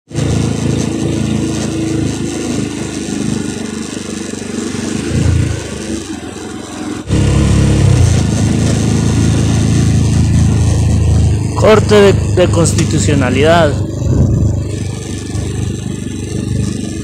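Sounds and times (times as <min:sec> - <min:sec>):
motorcycle engine running: 0:00.1 - 0:17.0.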